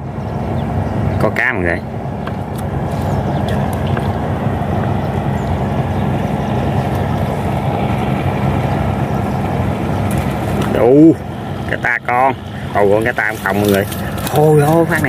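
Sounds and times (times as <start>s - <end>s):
small boat engine humming: 0.0s - 15.0s.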